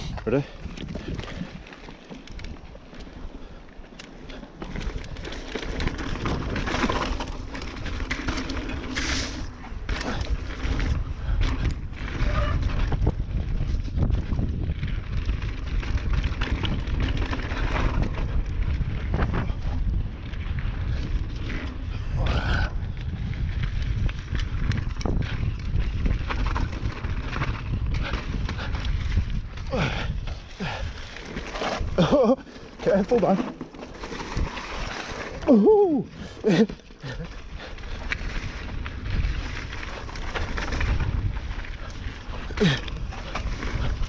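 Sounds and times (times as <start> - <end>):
wind buffeting microphone: 0.0 - 3.6, 4.6 - 33.3, 34.0 - 44.0
bike rattling: 0.0 - 44.0
bike tyre rumble: 0.0 - 44.0.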